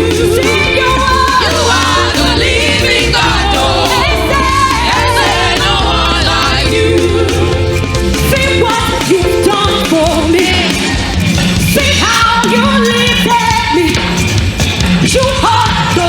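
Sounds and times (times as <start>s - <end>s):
gospel choir singing: 0.0s - 13.3s
band accompaniment: 0.0s - 16.0s.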